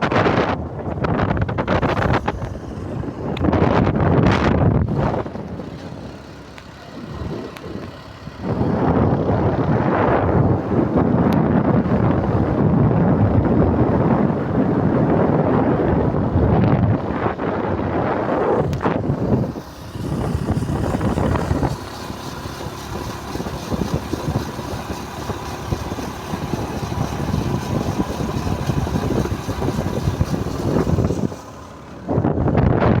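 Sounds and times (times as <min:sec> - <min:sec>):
road and wind noise: 0:00.0 - 0:33.0
vehicle engine running: 0:00.0 - 0:33.0.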